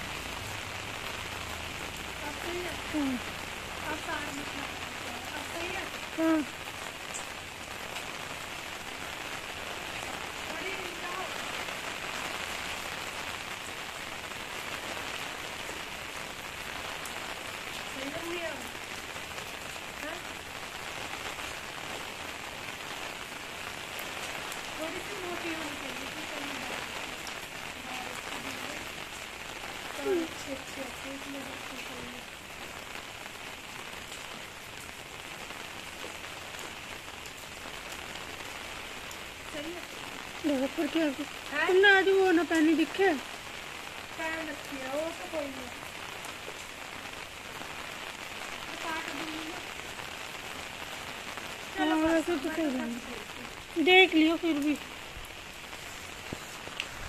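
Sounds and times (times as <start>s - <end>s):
rain on concrete rooftop: 0.0s - 57.0s.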